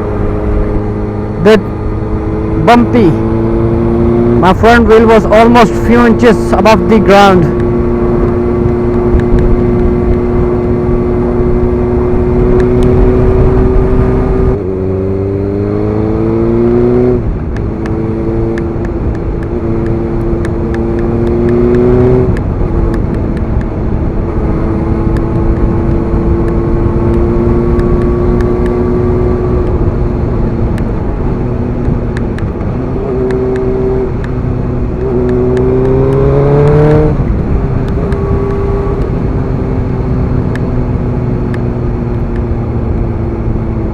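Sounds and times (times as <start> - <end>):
motorcycle engine running: 0.0 - 43.9
wind on microphone: 7.4 - 43.9.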